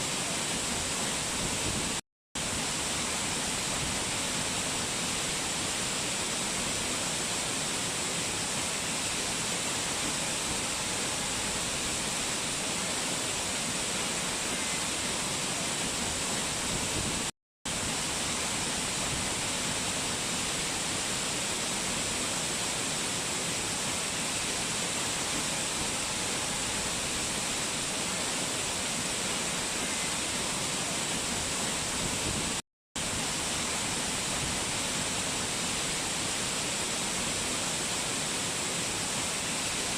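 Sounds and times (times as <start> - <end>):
rushing mountain water: 0.0 - 39.9.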